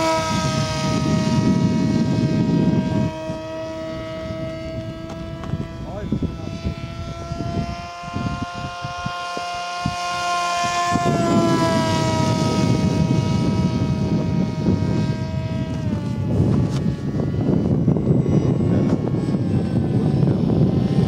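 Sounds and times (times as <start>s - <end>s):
model airplane motor whine: 0.0s - 21.0s
wind buffeting microphone: 0.0s - 21.0s.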